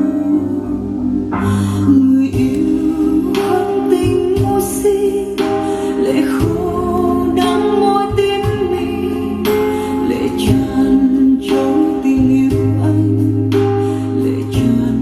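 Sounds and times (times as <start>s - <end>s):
woman singing song with beat: 0.0s - 15.0s.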